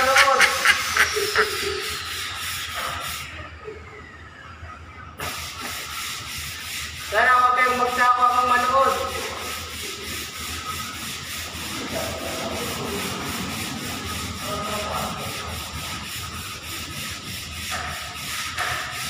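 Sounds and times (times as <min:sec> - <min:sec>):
sandpaper rubbing on a wall: 0:00.0 - 0:03.4, 0:05.2 - 0:19.0.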